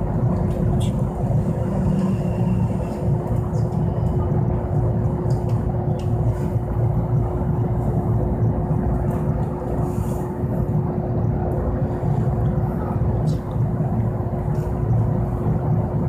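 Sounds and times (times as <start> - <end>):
even hum: 0.0 - 16.0
low rumble: 0.0 - 16.0.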